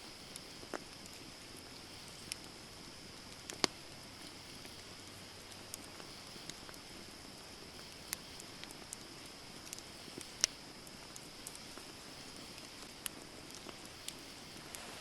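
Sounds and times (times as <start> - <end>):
campfire crackling and popping: 0.0 - 15.0
fire hissing: 0.0 - 15.0.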